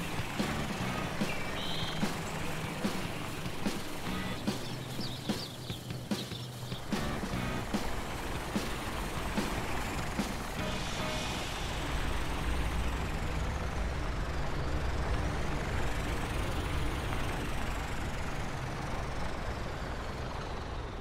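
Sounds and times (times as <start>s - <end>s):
cartoon truck engine: 0.0s - 21.0s.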